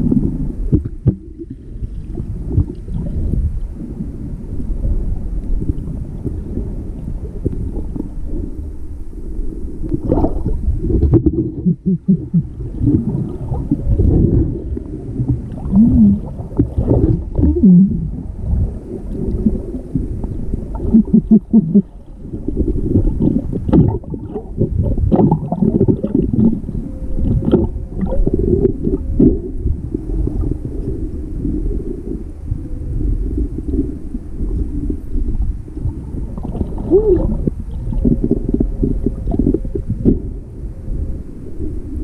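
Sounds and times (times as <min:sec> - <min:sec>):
low rush of water: 0:00.0 - 0:42.0
whale grunts and moans underwater: 0:00.0 - 0:42.0.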